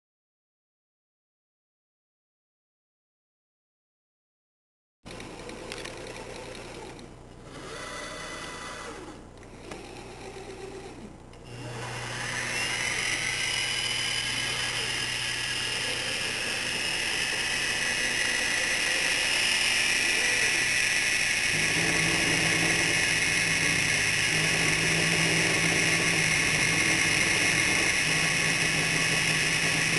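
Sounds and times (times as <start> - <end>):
router motors whirring: 5.1 - 29.9
spindle high-pitched whine: 5.1 - 29.9.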